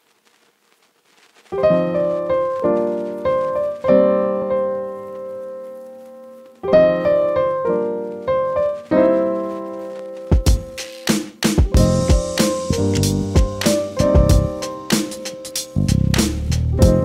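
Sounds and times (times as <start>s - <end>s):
piano chords ringing: 1.6s - 10.8s, 11.6s - 15.9s, 16.7s - 17.0s.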